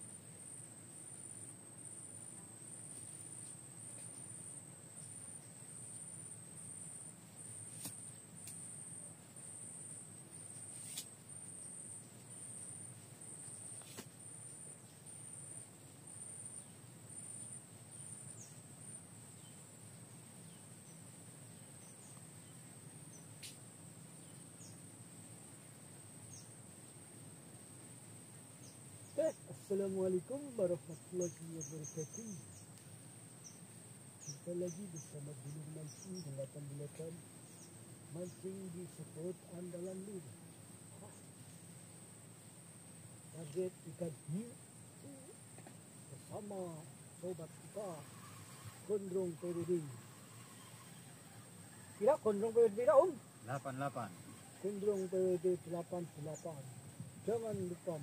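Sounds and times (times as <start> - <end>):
faint outdoor background noise: 0.0 - 58.0
high-pitched insect trill: 0.0 - 58.0.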